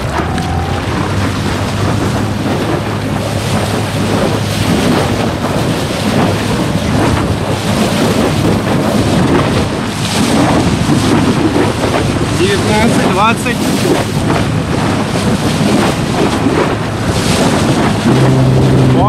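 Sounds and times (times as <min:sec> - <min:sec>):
water rushing and splashing: 0:00.0 - 0:19.0
wind buffeting microphone: 0:00.0 - 0:19.0.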